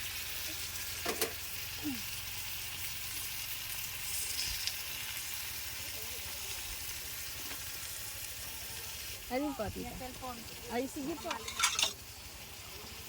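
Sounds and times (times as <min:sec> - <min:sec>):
steady sizzling hiss: 0:00.0 - 0:13.0.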